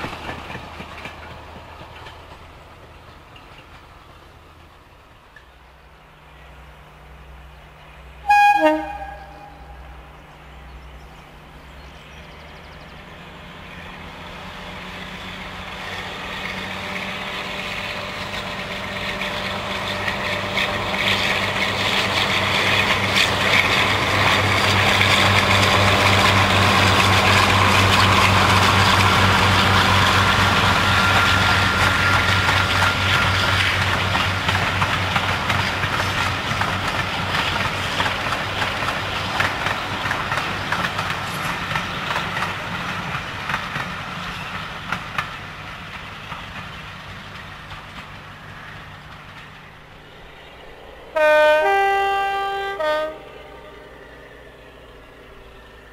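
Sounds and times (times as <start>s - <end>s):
coaches rattling over rails: 0.0s - 55.9s
diesel locomotive engine hum: 0.0s - 55.9s.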